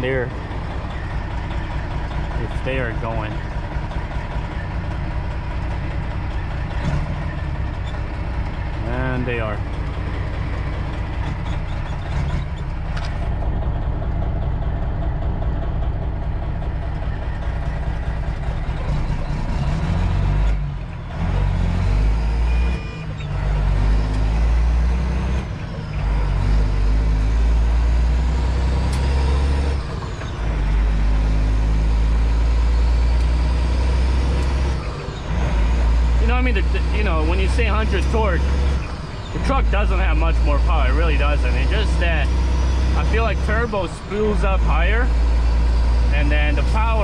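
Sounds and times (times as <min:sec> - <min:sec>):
truck engine drone: 0:00.0 - 0:47.0.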